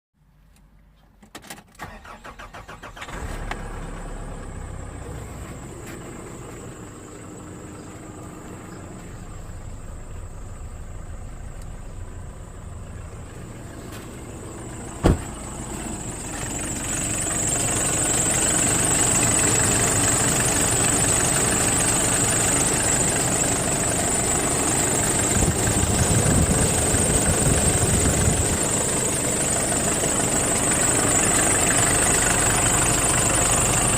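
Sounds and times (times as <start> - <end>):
engine starting and running: 1.2 - 33.9
high-pitched engine whine: 2.4 - 33.9.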